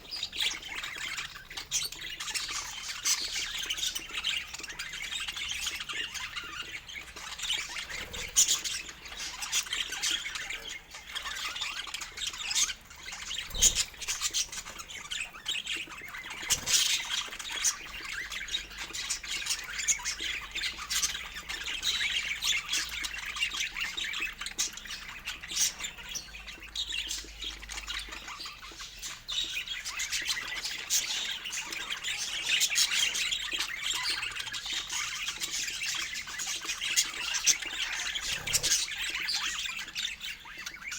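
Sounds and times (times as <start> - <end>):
budgies chattering and squawking: 0.0 - 40.9.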